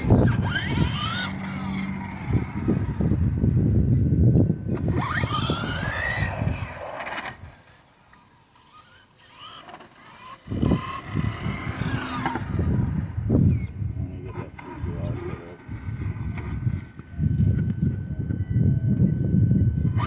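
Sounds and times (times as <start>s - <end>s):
toy truck electric motor whining: 0.0s - 17.9s, 19.2s - 20.0s.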